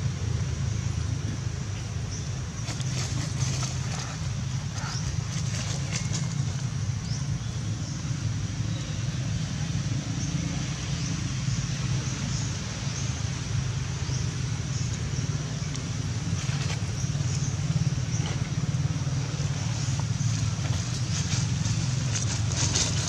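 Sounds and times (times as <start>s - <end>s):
engine low rumble: 0.0s - 23.0s.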